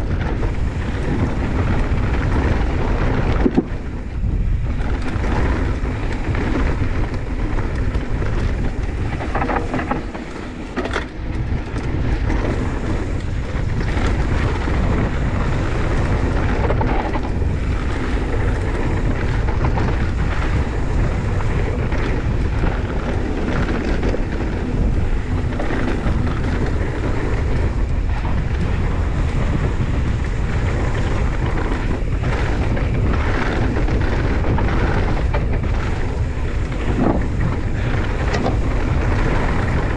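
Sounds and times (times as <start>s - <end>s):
bike rattles and clicks: 0.0s - 39.9s
wind buffeting microphone: 0.0s - 39.9s.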